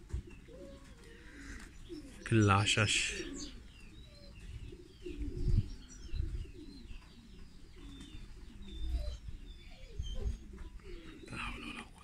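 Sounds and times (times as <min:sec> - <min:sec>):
doves cooing: 0:00.0 - 0:12.0.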